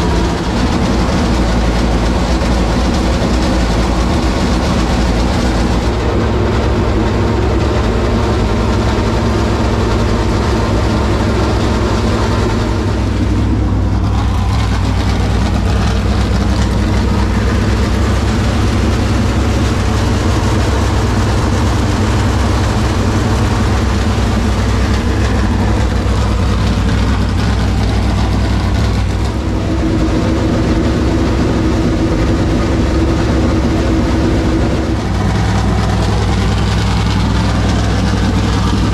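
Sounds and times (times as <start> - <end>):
race car engine idling: 0.0 - 38.9.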